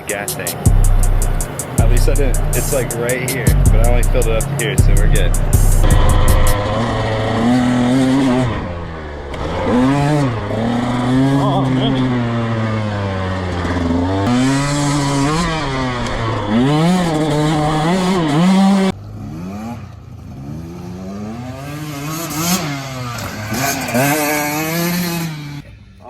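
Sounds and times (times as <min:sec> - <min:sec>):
dirt bike engine revving: 0:00.0 - 0:25.6.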